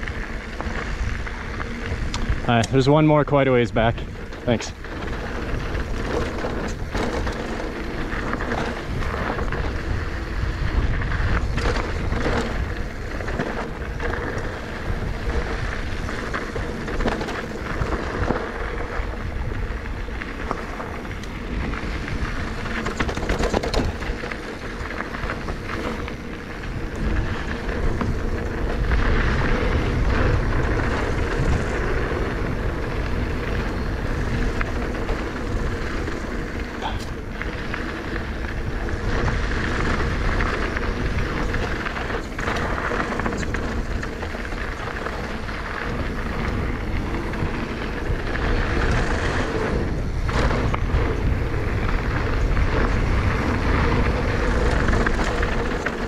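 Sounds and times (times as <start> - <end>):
bike riding rumble on dirt: 0.0 - 56.0
bike knocks and rattles: 3.9 - 56.0.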